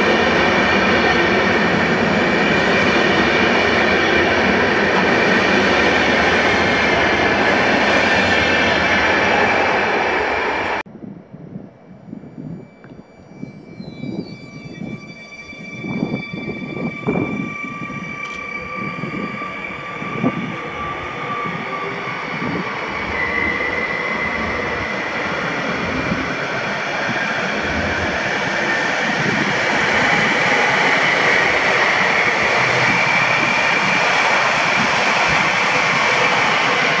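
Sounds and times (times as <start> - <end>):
train rolling past: 0.0 - 10.8, 12.1 - 37.0.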